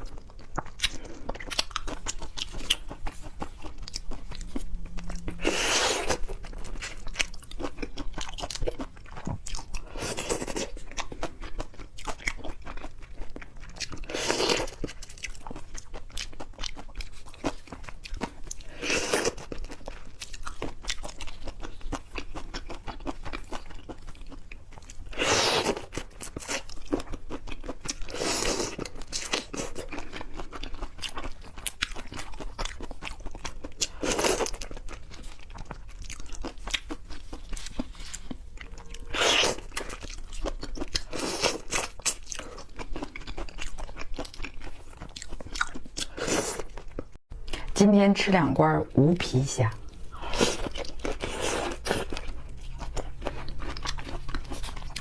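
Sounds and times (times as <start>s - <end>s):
wet chewing of seafood: 0.0s - 47.8s, 49.8s - 55.0s.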